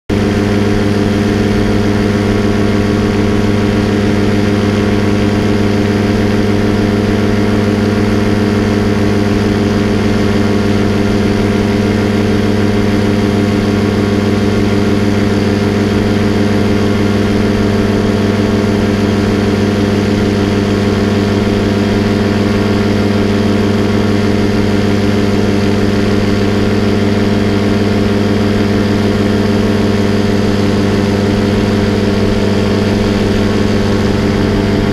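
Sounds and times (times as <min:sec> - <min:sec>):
paramotor engine droning: 0:00.1 - 0:34.9.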